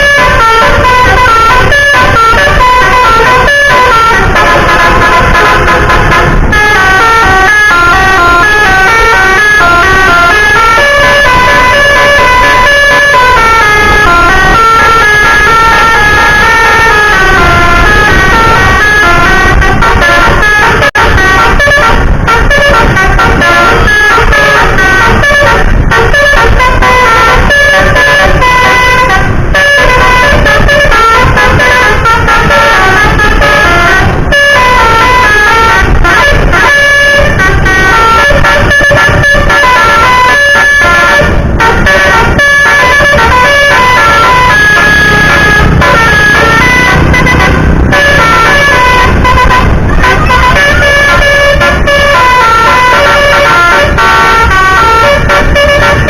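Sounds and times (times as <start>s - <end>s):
multi-tone vehicle horn tune: 0.0s - 56.0s
traffic noise: 0.0s - 56.0s.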